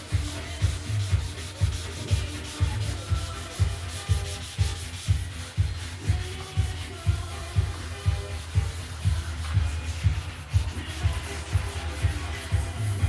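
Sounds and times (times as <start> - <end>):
sandpaper rubbing wet hull: 0.0 - 13.0.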